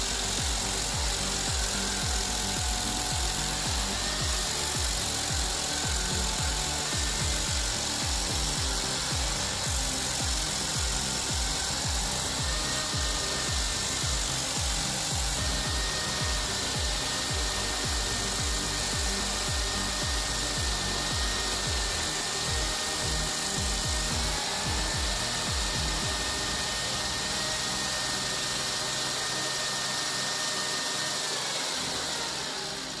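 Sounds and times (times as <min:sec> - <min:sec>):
stump grinder engine whining: 0:00.0 - 0:33.0.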